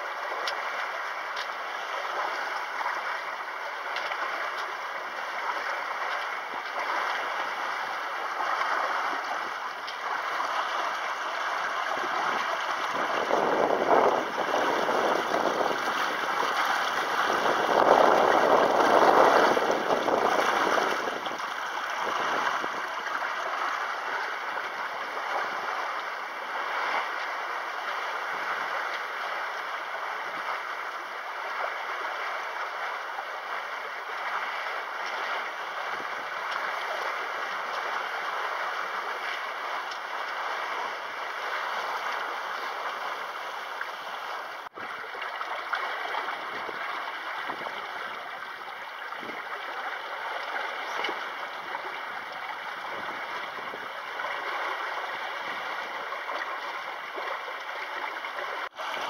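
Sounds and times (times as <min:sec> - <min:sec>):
water rushing along a hull: 0:00.0 - 0:59.0.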